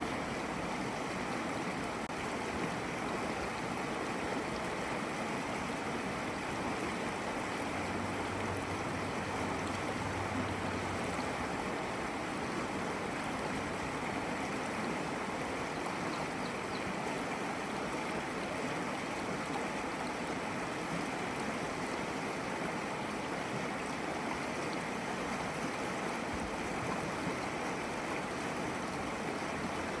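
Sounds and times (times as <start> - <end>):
stream flowing and splashing: 0.0 - 30.0.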